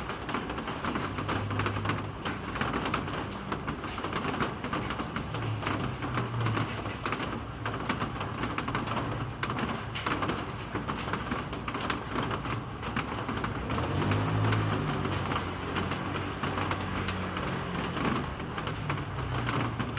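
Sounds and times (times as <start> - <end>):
rain pattering on hard surfaces: 0.0 - 19.9.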